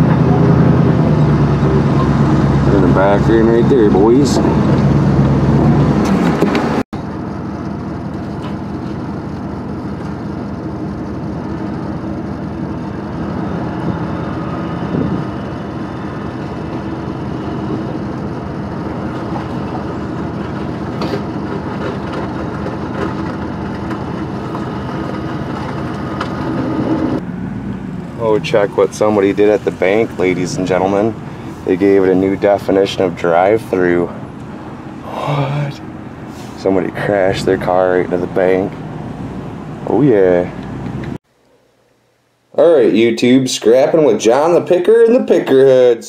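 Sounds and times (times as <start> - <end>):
truck engine idling: 0.0 - 41.2.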